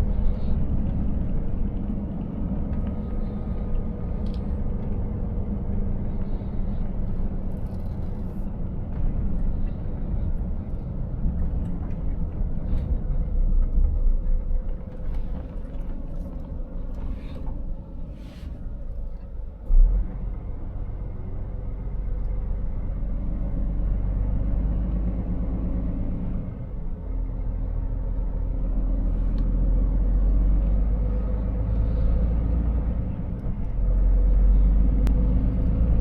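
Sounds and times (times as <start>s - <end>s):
truck engine and road rumble: 0.0s - 36.0s.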